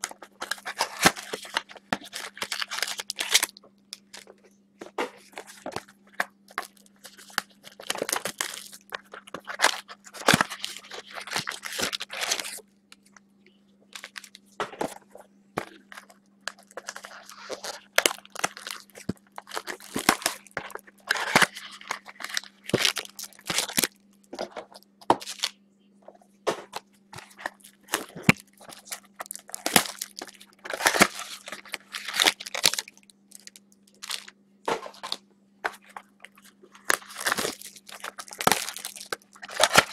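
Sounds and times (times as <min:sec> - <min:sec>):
foil wrappers crinkling and tearing: 0:00.0 - 0:04.3, 0:05.2 - 0:12.6, 0:14.0 - 0:14.4, 0:15.7 - 0:24.0, 0:24.7 - 0:25.5, 0:27.2 - 0:34.3, 0:34.9 - 0:39.9.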